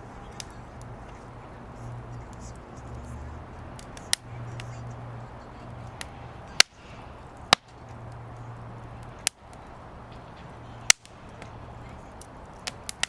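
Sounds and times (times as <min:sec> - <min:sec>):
firewood popping: 0:00.0 - 0:13.0
steady low hum: 0:00.0 - 0:13.0.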